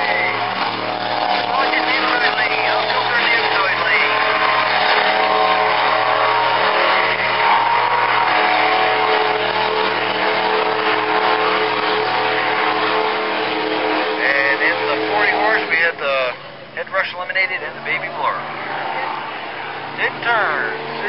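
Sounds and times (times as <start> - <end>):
racing boat engines droning: 0.0 - 21.0.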